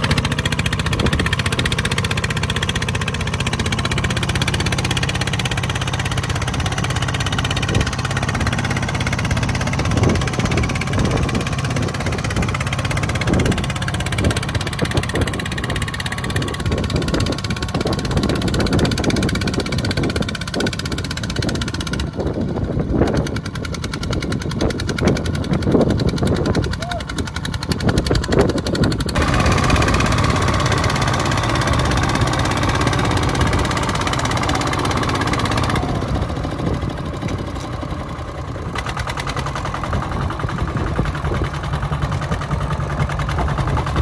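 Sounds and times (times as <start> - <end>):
small tractor engine putter: 0.0 - 44.0.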